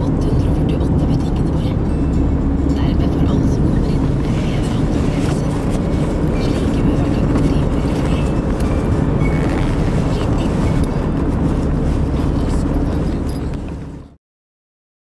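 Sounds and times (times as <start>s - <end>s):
car road and engine rumble: 0.0s - 14.2s.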